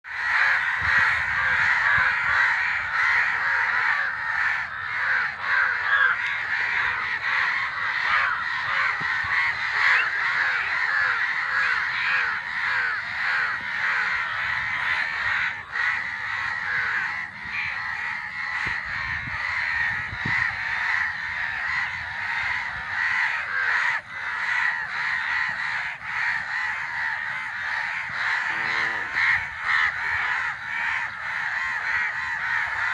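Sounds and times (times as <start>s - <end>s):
crows cawing: 0.0s - 32.9s.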